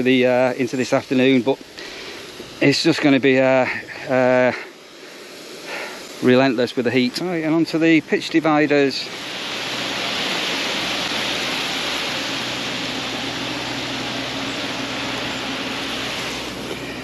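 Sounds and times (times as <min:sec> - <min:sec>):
garden hose spraying water: 0:00.0 - 0:17.0.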